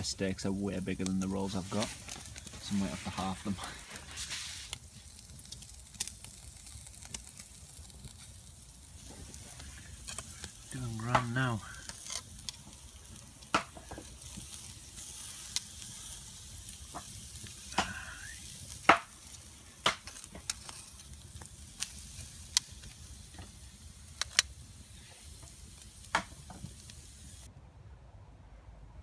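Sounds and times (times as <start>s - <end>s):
meat sizzling on grill: 0.0s - 27.5s.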